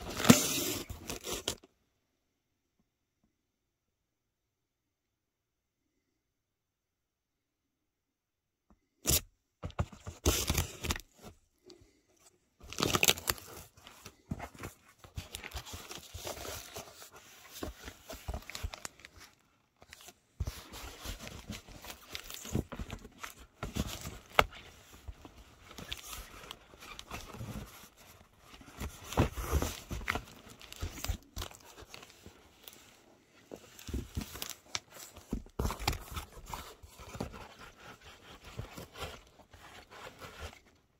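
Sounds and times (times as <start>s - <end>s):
cardboard crinkling and scraping: 0.0s - 1.7s, 9.6s - 40.9s.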